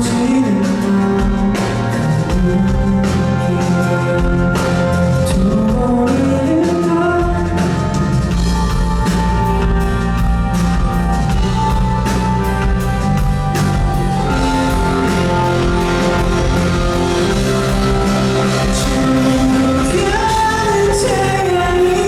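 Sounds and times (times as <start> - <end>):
drum kit beat: 0.0 - 22.0
live band playing pop-rock ballad: 0.0 - 22.0.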